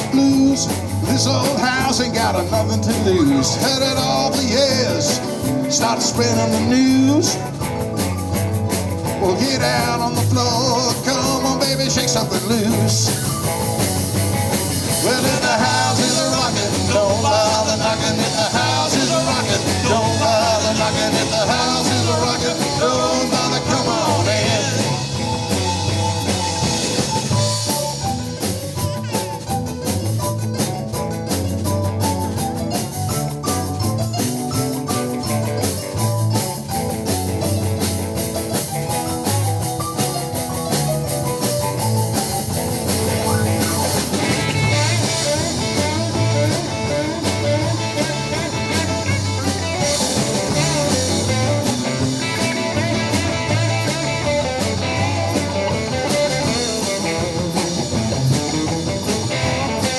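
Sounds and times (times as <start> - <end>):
blues-rock band playing: 0.0 - 59.9.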